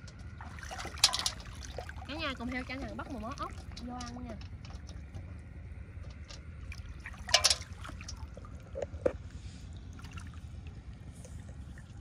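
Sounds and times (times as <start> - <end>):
steady low rumble: 0.0 - 12.0
water splashing: 0.0 - 12.0.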